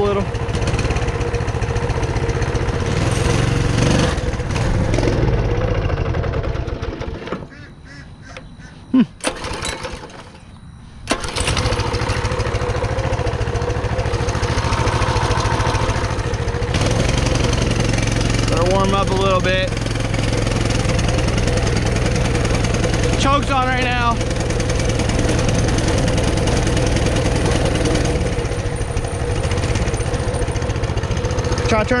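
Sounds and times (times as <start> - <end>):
mini bike engine running: 0.0 - 7.6, 9.2 - 10.4, 11.1 - 32.0.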